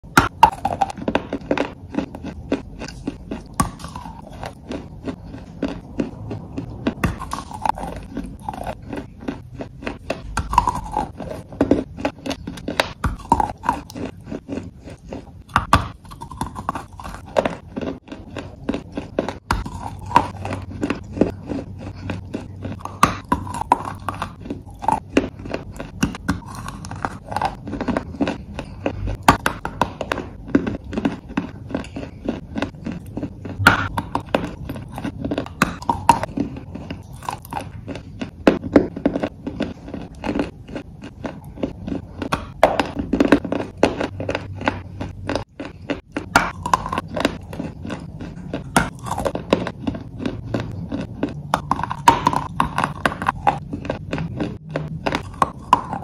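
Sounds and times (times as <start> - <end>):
person chewing crunchy clay: 0.0 - 56.0.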